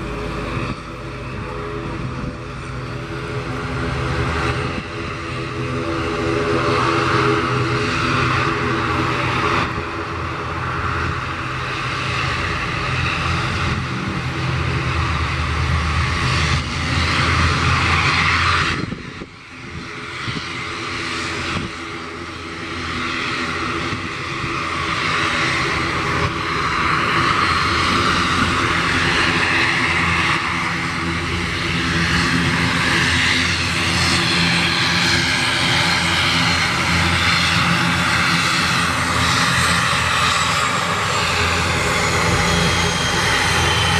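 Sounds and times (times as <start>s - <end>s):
turboprop propeller drone: 0.0s - 43.9s.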